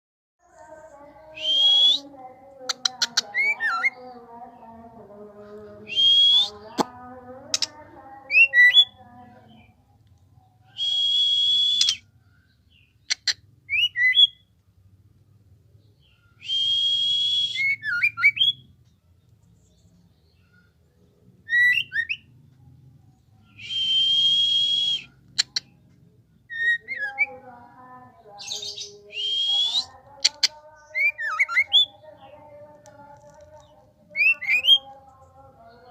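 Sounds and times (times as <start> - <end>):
bird chirping: 0.5 - 14.6, 17.3 - 35.9.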